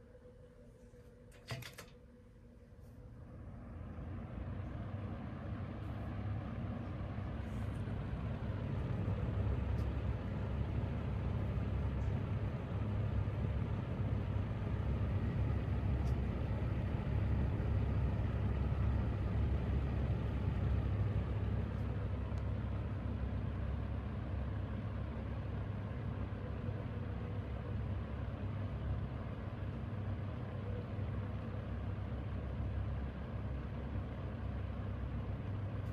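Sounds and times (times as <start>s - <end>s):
box fan running: 0.0s - 35.9s.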